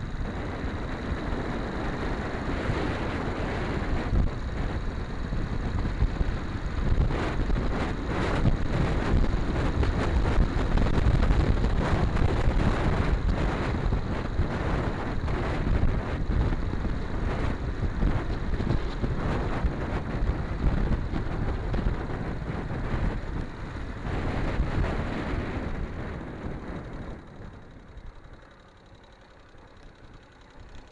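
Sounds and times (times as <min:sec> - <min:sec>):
motorcycle engine idling: 0:00.0 - 0:30.9
motorcycle engine riding: 0:00.0 - 0:30.9
wind buffeting microphone: 0:00.0 - 0:30.9.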